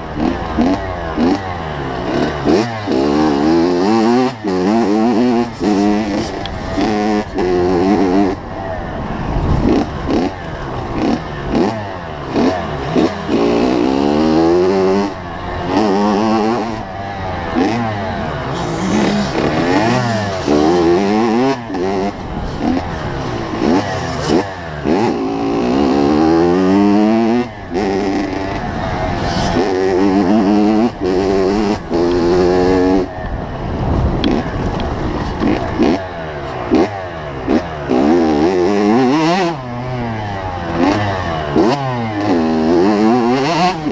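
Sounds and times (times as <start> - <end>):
two-stroke motorbike engine revving: 0.0 - 43.9.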